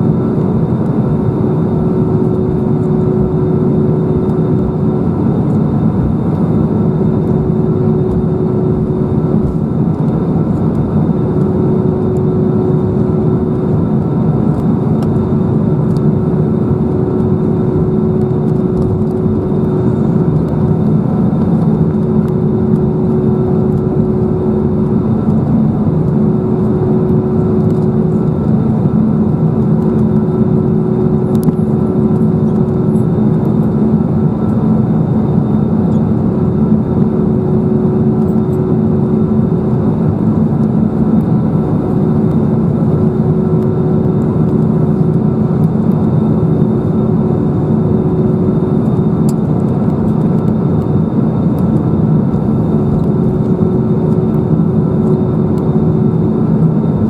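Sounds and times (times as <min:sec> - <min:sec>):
jet engines humming and whining: 0:00.0 - 0:57.0.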